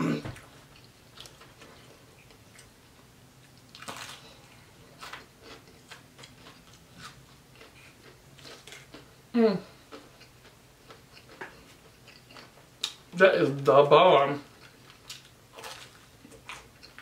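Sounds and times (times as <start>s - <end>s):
chewing crispy food: 0.4s - 13.7s, 14.3s - 17.0s.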